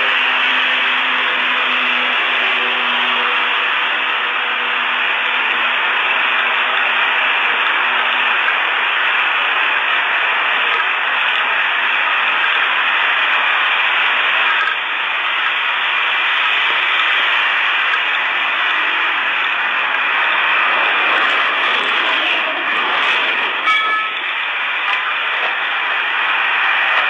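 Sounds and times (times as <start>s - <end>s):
static-like hiss: 0.0s - 27.0s.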